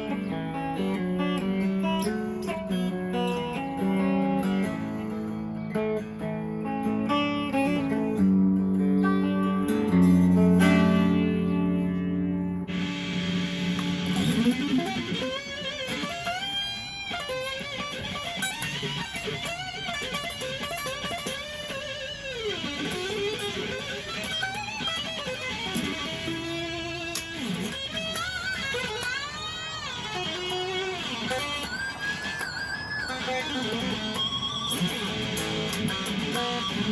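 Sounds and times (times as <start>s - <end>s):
electric guitar lead line: 0.0s - 36.9s.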